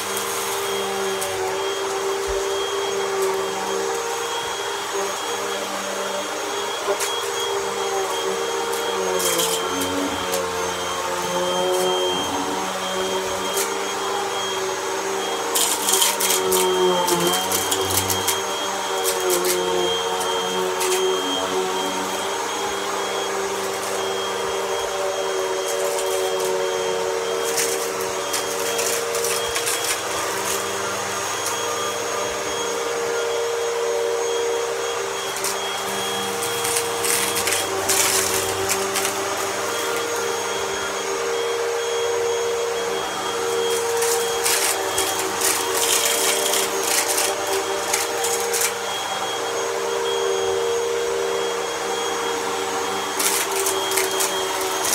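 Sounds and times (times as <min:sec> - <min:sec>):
vacuum cleaner motor hum: 0:00.0 - 0:54.9.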